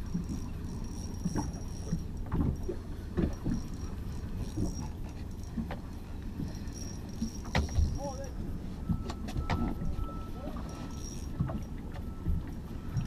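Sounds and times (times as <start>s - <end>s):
boat knocks and thumps: 0.0s - 13.0s
water and wind on boat hull: 0.0s - 13.0s.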